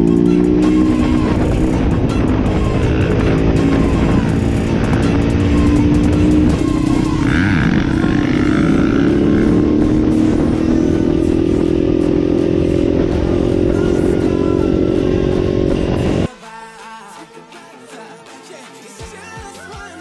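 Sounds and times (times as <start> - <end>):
motorcycle engine running: 0.0 - 16.3
quiet music: 0.0 - 20.0.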